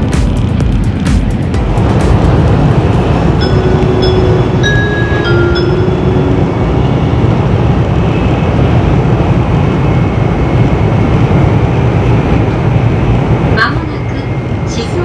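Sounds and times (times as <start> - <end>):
train interior rumble and rush: 0.0 - 15.0.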